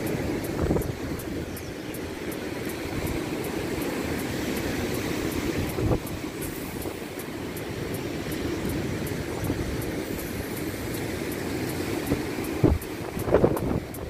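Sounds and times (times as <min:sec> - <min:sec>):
surf breaking against seawall: 0:00.0 - 0:14.0
wind buffeting microphone: 0:00.0 - 0:14.0.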